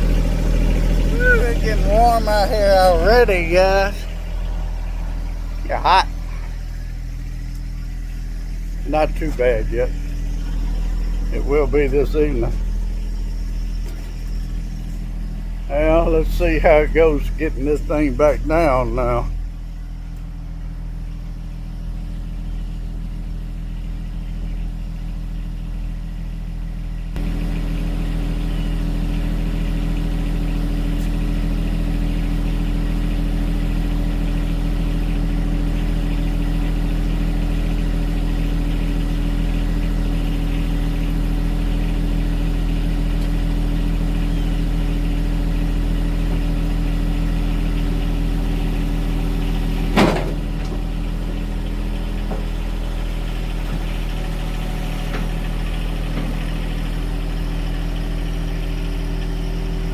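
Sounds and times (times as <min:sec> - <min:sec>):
lawn mower engine running: 0:00.0 - 0:26.2, 0:27.2 - 0:59.9.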